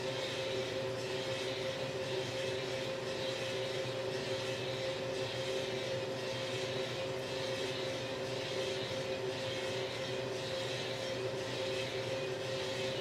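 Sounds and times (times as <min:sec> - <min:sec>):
coffee roaster machine hum: 0:00.0 - 0:13.0.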